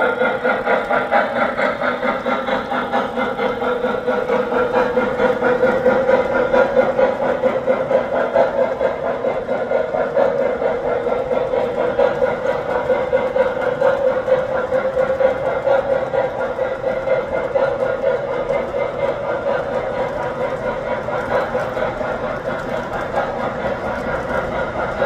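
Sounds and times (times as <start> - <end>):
model train cars rolling on track: 0.0 - 25.0.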